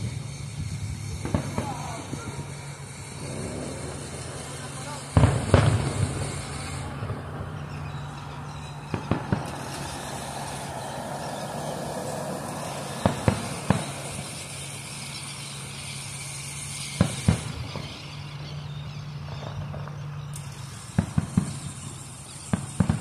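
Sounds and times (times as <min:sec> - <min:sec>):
fireworks bursting: 0:00.0 - 0:23.0
low engine hum: 0:00.0 - 0:23.0.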